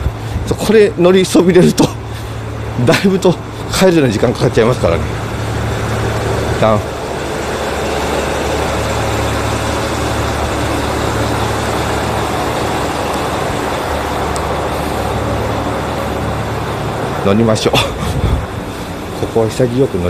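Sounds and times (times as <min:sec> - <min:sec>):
diesel railcar engine idling: 0:00.0 - 0:20.0.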